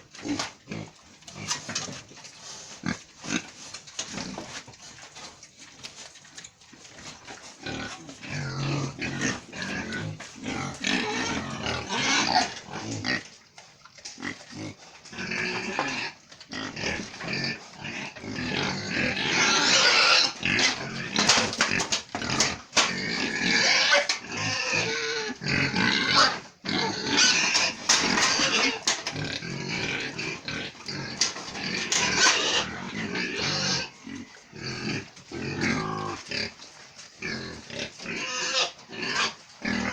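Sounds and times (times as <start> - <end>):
pigs grunting and squealing: 0.0 - 39.9.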